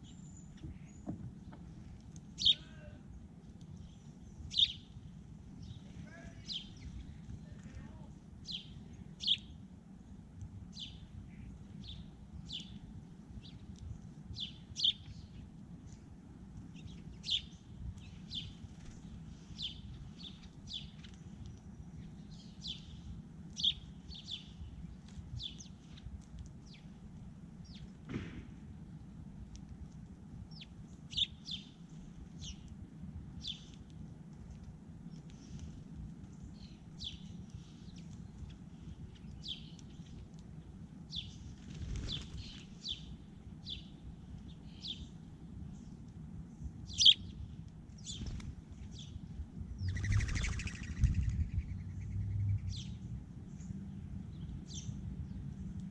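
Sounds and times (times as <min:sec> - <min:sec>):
songbirds chirping: 0:00.0 - 0:55.9
steady low rumble: 0:00.0 - 0:55.9.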